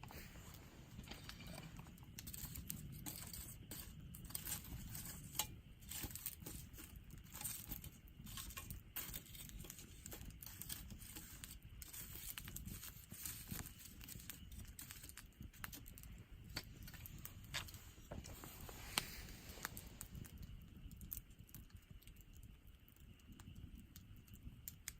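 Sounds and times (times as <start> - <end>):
firewood crackling: 0.0 - 24.9
low rumble of flame: 0.0 - 24.9.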